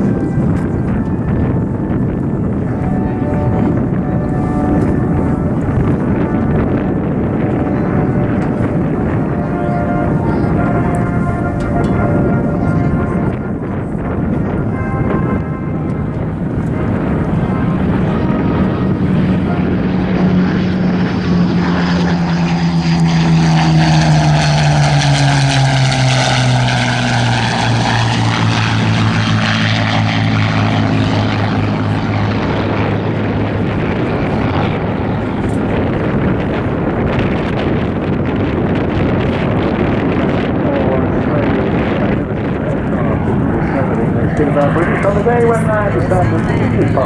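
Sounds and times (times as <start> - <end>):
propeller aircraft engines droning: 0.0 - 47.0.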